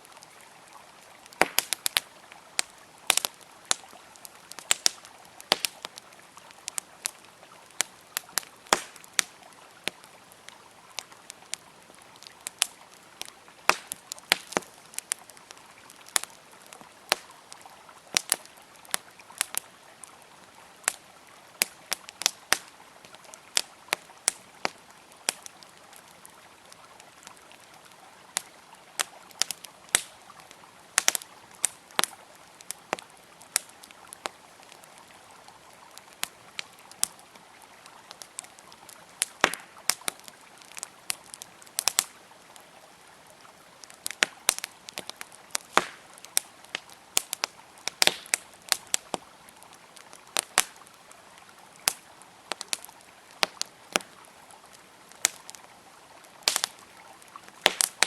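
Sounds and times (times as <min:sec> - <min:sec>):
flowing river water: 0:00.0 - 0:58.0
wood fire crackling and popping: 0:00.0 - 0:58.0.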